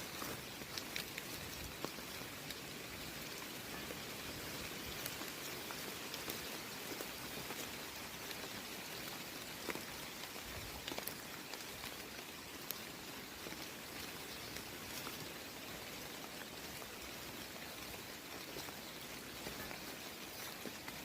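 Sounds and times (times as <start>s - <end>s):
light rain hiss: 0.0s - 21.0s
raindrops ticking: 0.0s - 21.0s.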